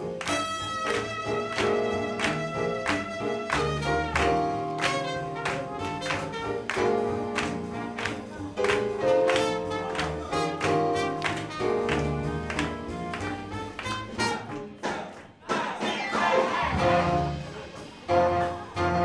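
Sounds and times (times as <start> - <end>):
swing jazz music: 0.0 - 19.0.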